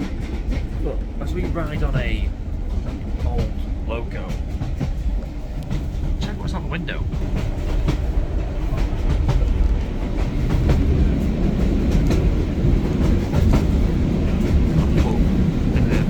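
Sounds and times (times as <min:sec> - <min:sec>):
train running gear rumble: 0:00.0 - 0:16.0
wheels clicking over rail joints: 0:00.0 - 0:16.0.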